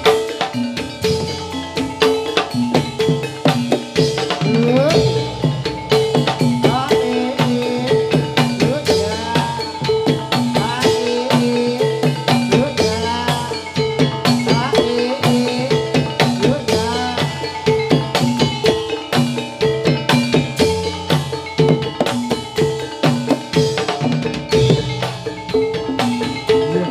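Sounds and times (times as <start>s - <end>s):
fast drumming: 0.0s - 26.9s
struck metallophone notes: 0.0s - 26.9s.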